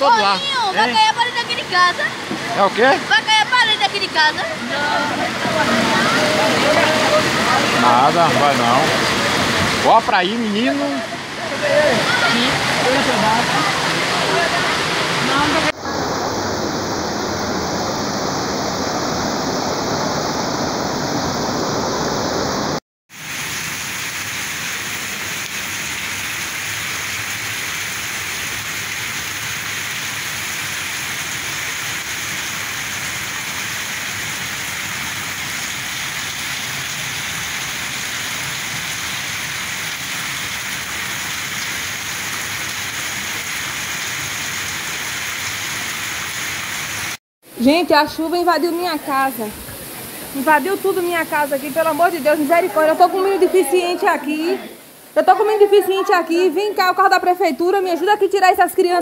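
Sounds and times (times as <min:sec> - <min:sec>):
heavy rain on a flooded street: 0:00.0 - 0:16.8, 0:22.3 - 0:47.2, 0:48.0 - 0:57.2
floodwater rushing: 0:00.0 - 0:59.0.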